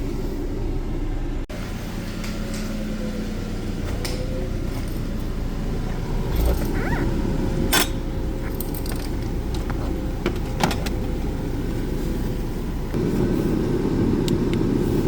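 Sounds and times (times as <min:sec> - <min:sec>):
air-conditioning blower: 0:00.0 - 0:06.4, 0:07.0 - 0:15.0
car engine idling: 0:00.0 - 0:15.0.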